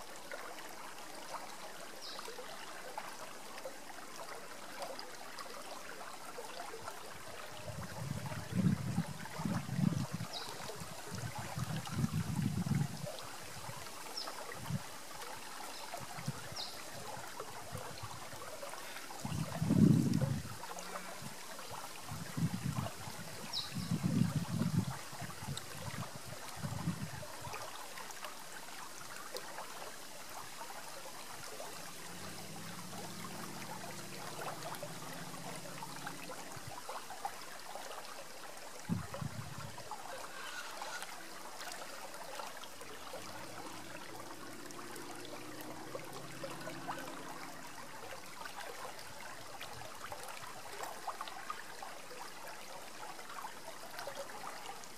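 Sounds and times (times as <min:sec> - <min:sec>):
river trickling over rocks: 0:00.0 - 0:54.9.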